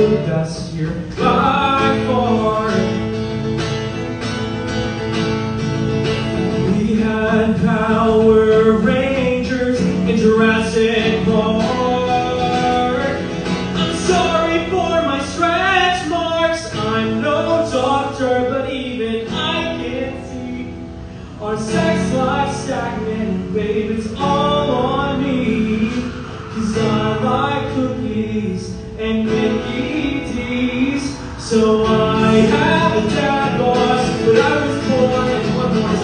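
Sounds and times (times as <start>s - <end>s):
man singing: 0.0s - 3.6s, 6.4s - 36.0s
guitar playing: 0.0s - 36.0s.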